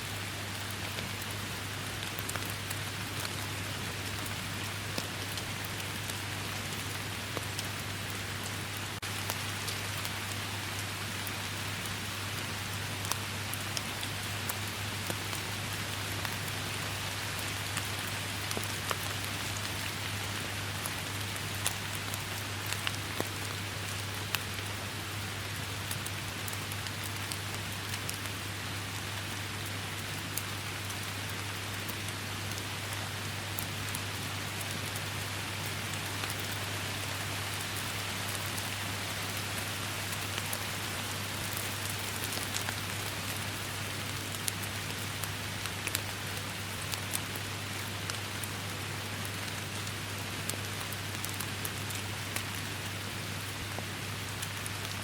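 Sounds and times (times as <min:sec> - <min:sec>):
heavy rain: 0:00.0 - 0:55.0
raindrops hitting close by: 0:00.0 - 0:55.0.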